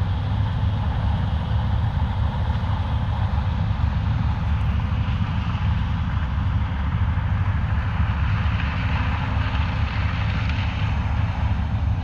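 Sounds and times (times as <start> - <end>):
combine harvester drone: 0.0 - 12.0
wind rumbling on microphone: 0.0 - 12.0.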